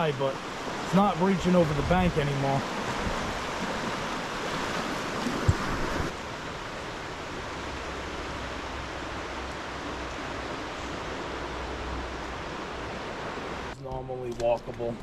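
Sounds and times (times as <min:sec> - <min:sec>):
river rushing: 0:00.0 - 0:13.8.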